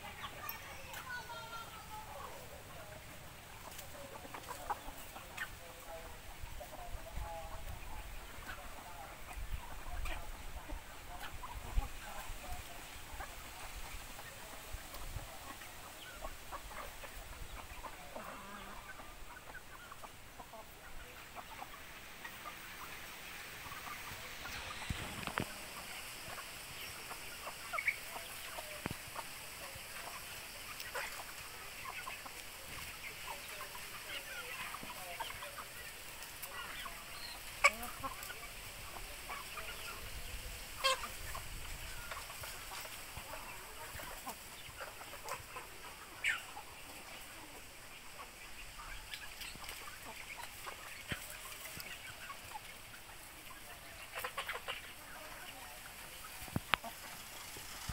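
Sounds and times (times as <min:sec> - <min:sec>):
chickens clucking: 0:00.0 - 0:57.9.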